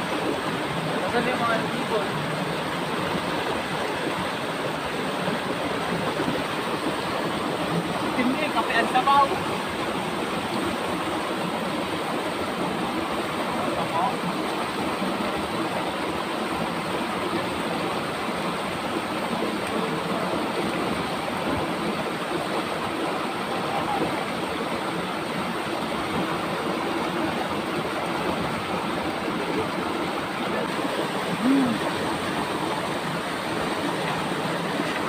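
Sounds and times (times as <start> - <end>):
river rushing over stones: 0.0 - 35.0.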